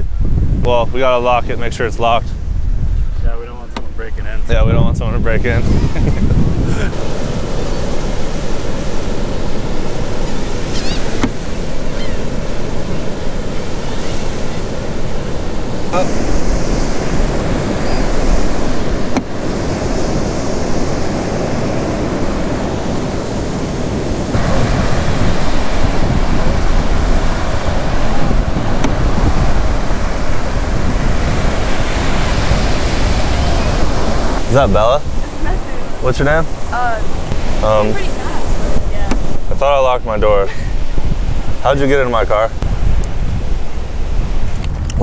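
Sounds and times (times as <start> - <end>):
ocean surf washing on beach: 0.0 - 45.0
wind buffeting microphone: 0.0 - 45.0.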